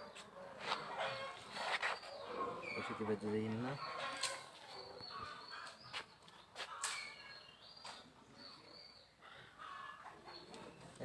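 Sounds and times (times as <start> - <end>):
faint high bird chirps: 0.8 - 11.0.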